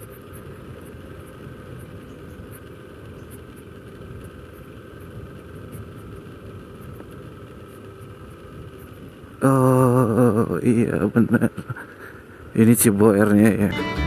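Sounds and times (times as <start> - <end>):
faint steady whine: 0.0 - 14.0
scooter engine running: 0.0 - 14.0.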